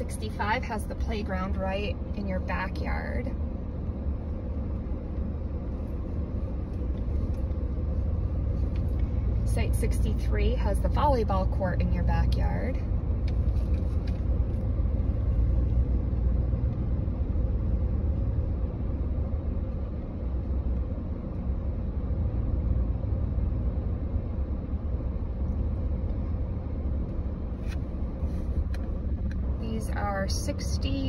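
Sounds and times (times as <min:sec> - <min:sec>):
car rolling on dirt road: 0:00.0 - 0:31.0.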